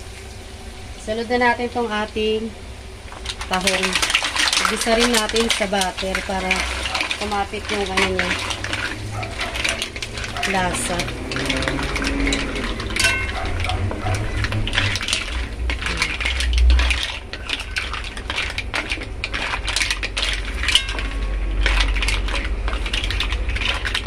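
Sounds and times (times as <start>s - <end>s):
mussel shells clattering in pan: 3.1s - 24.0s.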